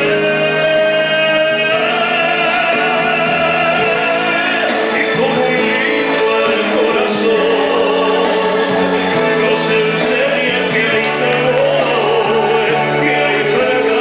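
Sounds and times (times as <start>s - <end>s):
musical accompaniment: 0.0s - 14.0s
two men singing duet: 0.0s - 14.0s.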